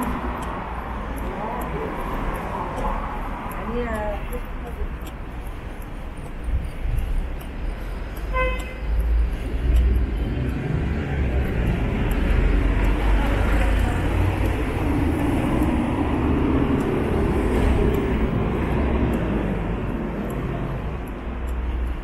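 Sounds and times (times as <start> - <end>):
street traffic rumbling: 0.0 - 22.0.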